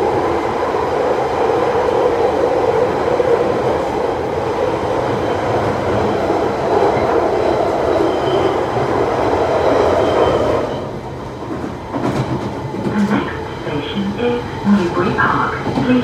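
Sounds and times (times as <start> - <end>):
train rumbling in tunnel: 0.0 - 16.0.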